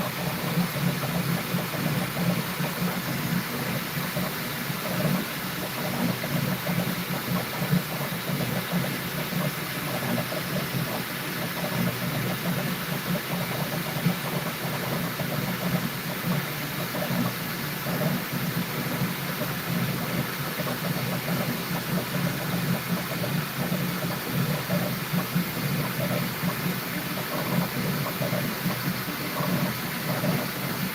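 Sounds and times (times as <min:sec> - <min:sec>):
three d printer running: 0:00.0 - 0:30.9.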